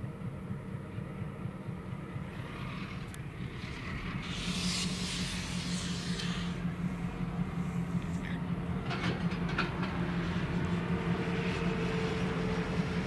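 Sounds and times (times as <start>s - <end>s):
diesel locomotive engine hum: 0.0s - 13.0s.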